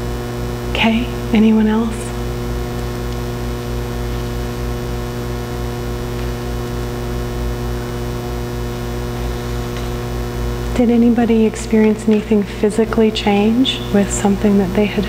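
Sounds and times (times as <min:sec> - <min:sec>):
electrical buzz: 0:00.0 - 0:15.0
electrical mains hum: 0:00.0 - 0:15.0.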